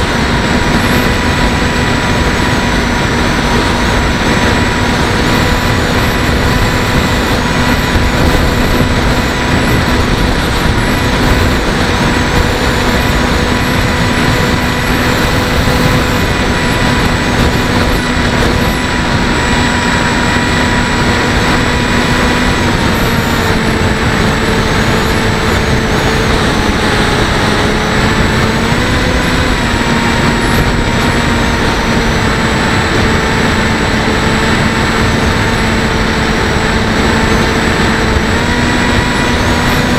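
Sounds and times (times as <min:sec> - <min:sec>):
electric motor and propeller whine: 0:00.0 - 0:39.9
wind rushing: 0:00.0 - 0:39.9.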